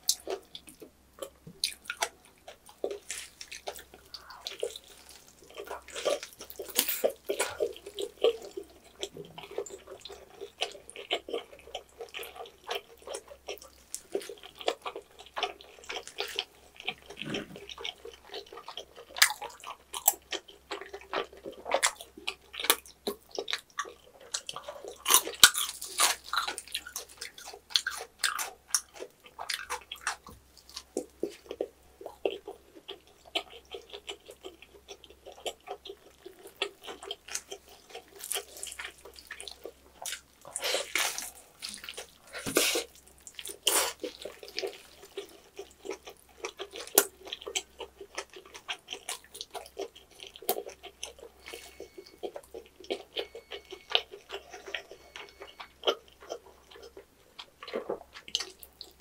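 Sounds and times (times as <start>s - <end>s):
close chewing with wet smacking: 0.0s - 59.0s.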